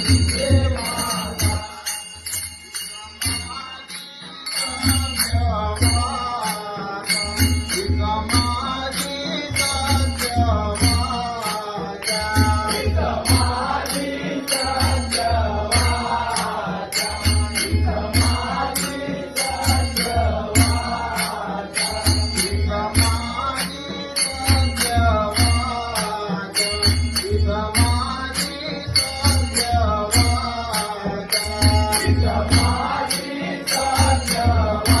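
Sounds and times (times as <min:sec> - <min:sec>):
hand cymbals striking: 0:00.0 - 0:35.0
voices singing devotional song: 0:00.0 - 0:35.0.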